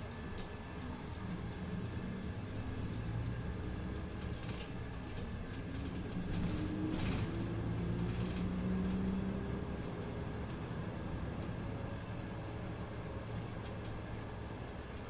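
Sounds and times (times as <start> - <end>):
bus engine and drivetrain hum: 0.0 - 15.0.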